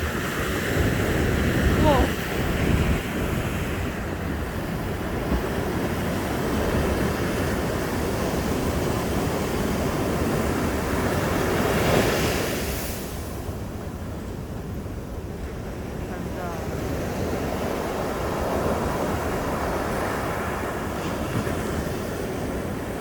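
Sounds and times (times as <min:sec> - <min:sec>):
sea waves breaking on beach: 0:00.0 - 0:23.0.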